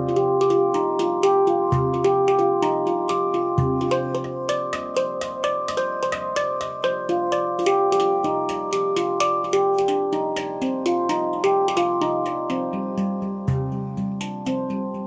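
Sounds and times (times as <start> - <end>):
fast ticking beat: 0.0 - 15.0
melody of pitched notes: 0.0 - 15.0.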